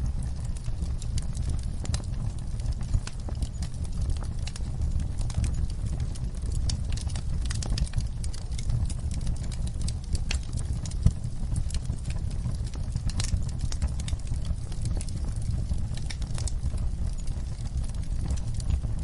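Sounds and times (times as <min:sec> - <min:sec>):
fire rumbling: 0:00.0 - 0:19.0
wood crackling and popping: 0:00.0 - 0:19.0.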